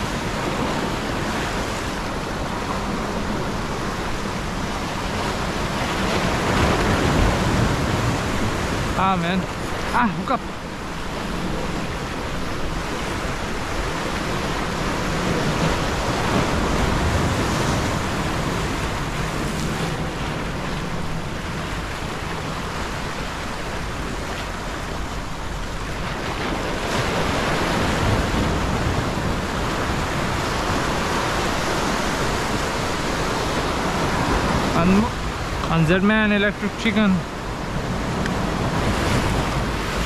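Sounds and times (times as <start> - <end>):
wind buffeting microphone: 0.0 - 35.9
sea surf breaking over rocks: 0.0 - 40.0.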